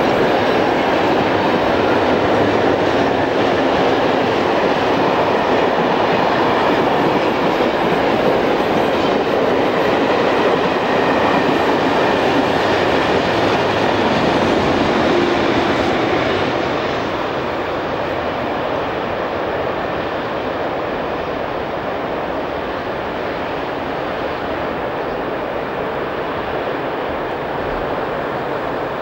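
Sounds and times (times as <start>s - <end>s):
train wheels rushing on rail: 0.0s - 29.0s.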